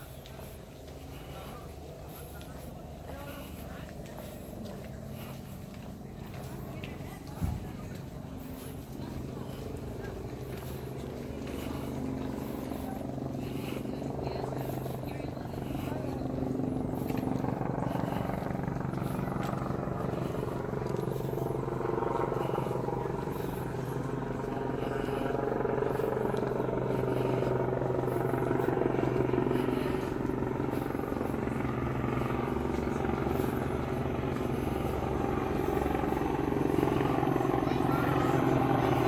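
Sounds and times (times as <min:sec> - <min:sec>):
engine droning: 0:00.0 - 0:39.0
murmur of many voices: 0:00.0 - 0:39.0.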